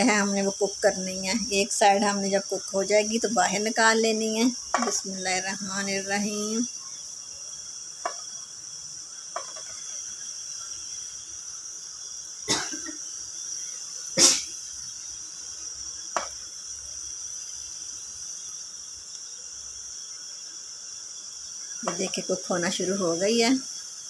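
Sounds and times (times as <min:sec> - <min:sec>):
bread sizzling into hot oil: 0:00.0 - 0:24.0
crickets chirring: 0:00.0 - 0:24.0.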